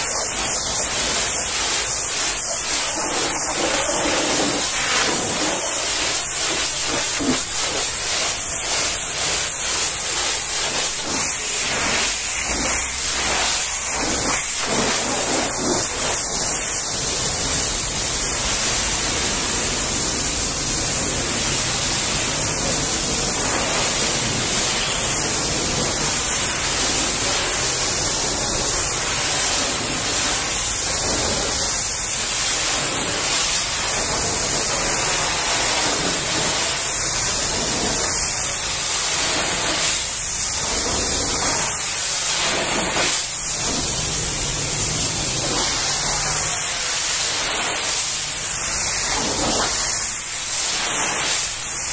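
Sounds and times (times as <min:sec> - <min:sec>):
pressure washer spraying water: 0:00.0 - 0:51.9.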